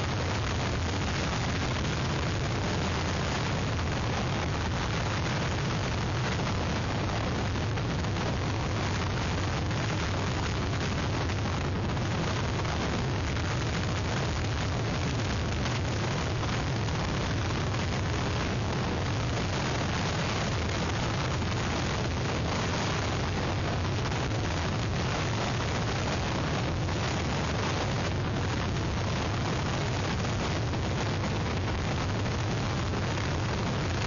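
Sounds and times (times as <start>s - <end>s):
hurricane wind and rain: 0.0s - 34.0s.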